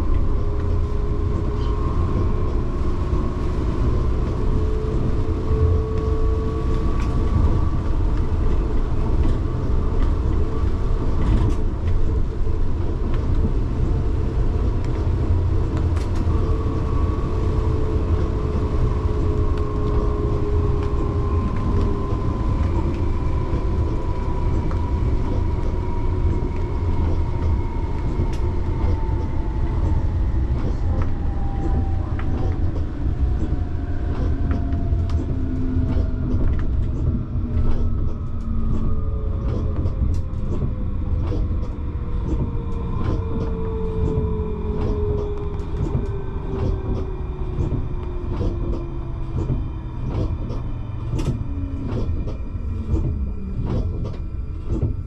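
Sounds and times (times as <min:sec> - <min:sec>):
tram wheels rumbling on rail: 0:00.0 - 0:55.0.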